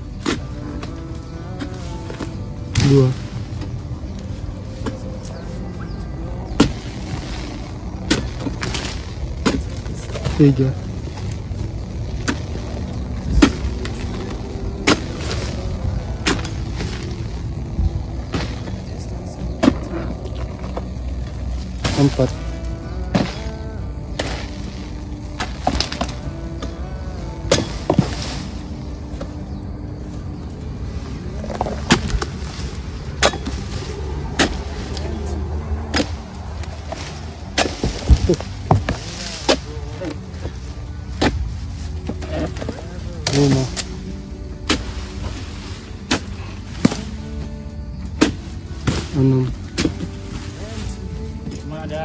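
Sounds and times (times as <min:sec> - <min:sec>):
chisel chopping palm stalks: 0:00.0 - 0:05.2, 0:06.4 - 0:17.4, 0:18.1 - 0:18.9, 0:19.5 - 0:20.9, 0:21.5 - 0:29.4, 0:31.4 - 0:51.6.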